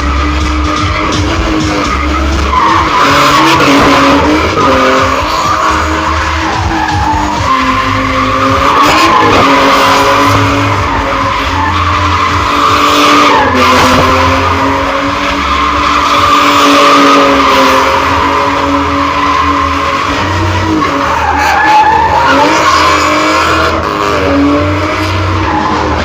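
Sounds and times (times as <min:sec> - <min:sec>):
car engine revving high: 0:00.0 - 0:26.0
tyres screeching: 0:00.0 - 0:26.0.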